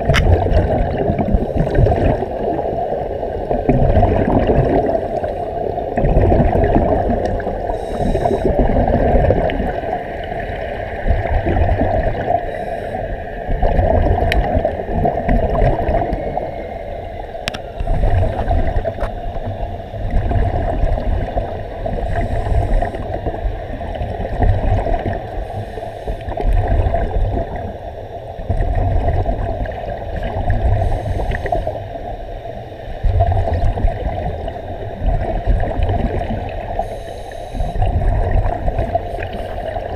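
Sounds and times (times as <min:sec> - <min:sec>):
muffled underwater gurgling: 0:00.0 - 0:39.9.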